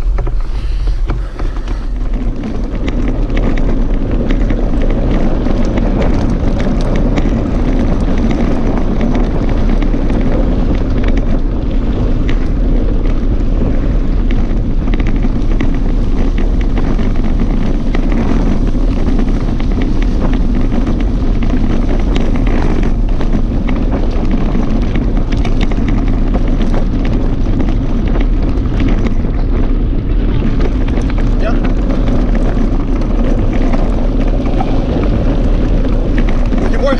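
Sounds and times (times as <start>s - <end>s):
clicks and knocks from bike: 0.0s - 36.9s
tyres crunching on gravel: 0.0s - 36.9s
wind rush on microphone: 0.0s - 36.9s.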